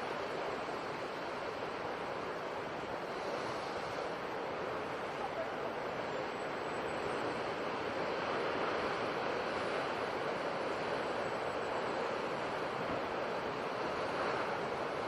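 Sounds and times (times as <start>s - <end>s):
sea waves rushing: 0.0s - 15.0s.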